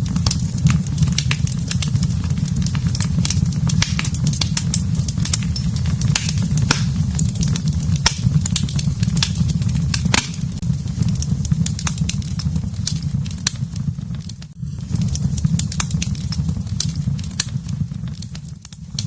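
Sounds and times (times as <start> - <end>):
fire pops and snaps: 0.0 - 19.0
steady low rumble: 0.0 - 19.0
wood fire crackling: 0.0 - 19.0.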